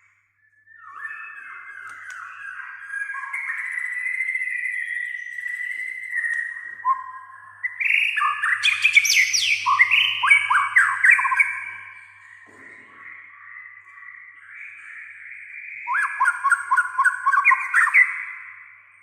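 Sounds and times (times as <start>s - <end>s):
bird singing whistled notes: 0.0s - 19.0s.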